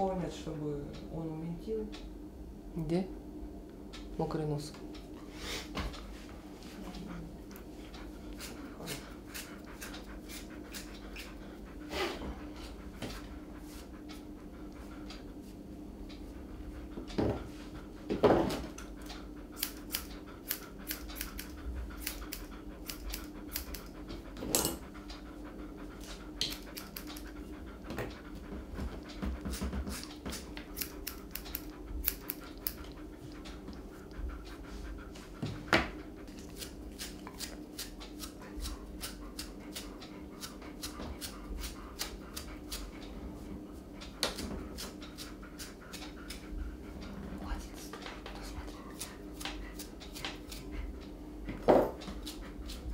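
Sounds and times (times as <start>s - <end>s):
dog breathing and sniffing: 5.0s - 52.9s.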